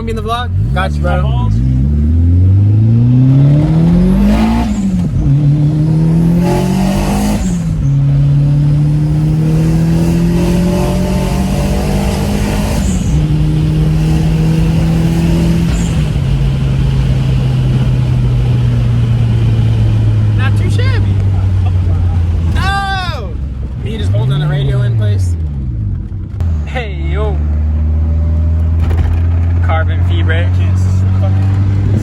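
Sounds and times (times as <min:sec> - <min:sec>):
car engine revving through gears: 0:00.0 - 0:23.0, 0:23.6 - 0:32.0.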